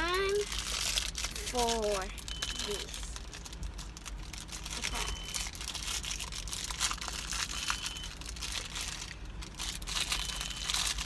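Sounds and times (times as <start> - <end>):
plastic wrapper crinkling: 0.3 - 11.0.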